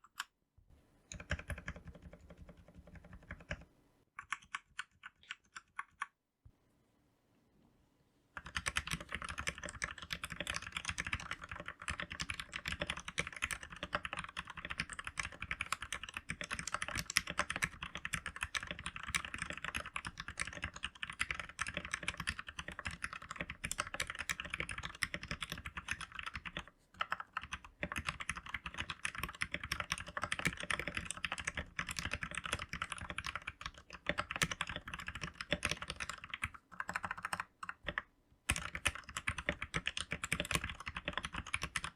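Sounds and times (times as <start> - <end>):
mechanical keyboard typing: 1.1 - 6.1, 8.4 - 41.9.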